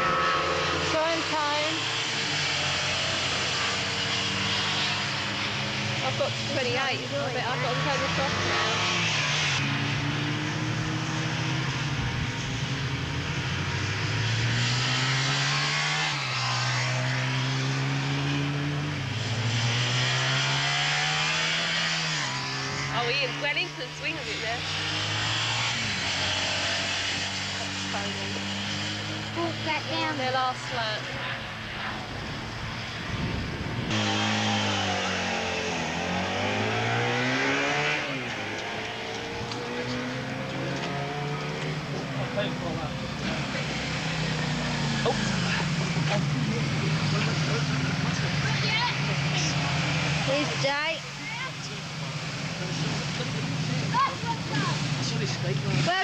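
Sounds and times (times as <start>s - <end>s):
motorcycle engine shifting gears: 0.0s - 56.0s
other motorcycles: 0.0s - 56.0s.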